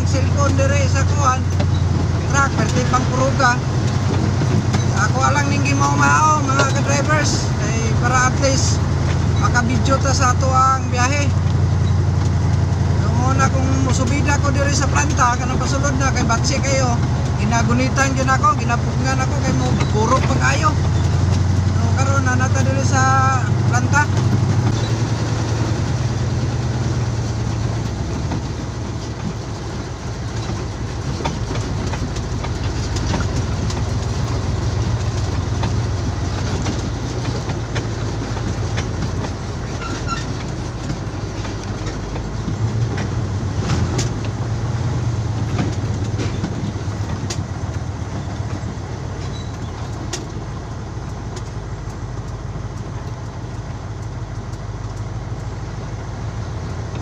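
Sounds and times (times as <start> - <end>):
truck body rattling: 0.0 - 57.0
truck engine droning: 0.0 - 57.0.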